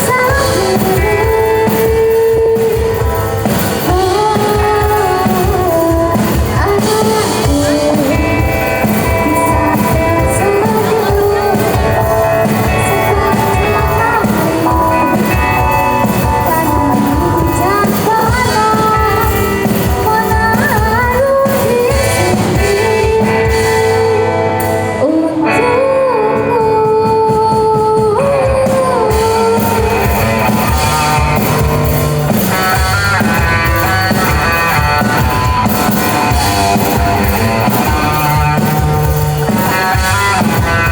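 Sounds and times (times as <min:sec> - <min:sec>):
person singing: 0:00.0 - 0:40.9
pop-rock band playing: 0:00.0 - 0:40.9.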